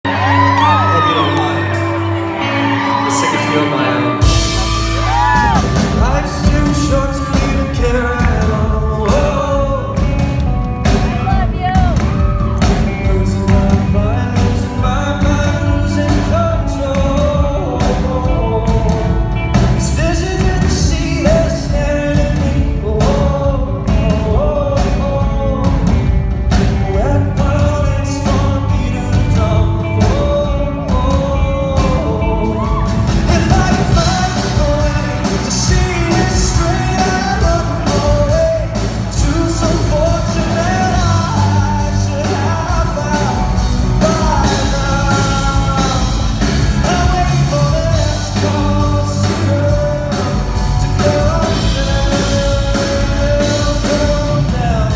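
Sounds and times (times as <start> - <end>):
live rock band: 0.0 - 54.9
man singing: 0.0 - 54.9
steady drum beat: 4.2 - 54.9.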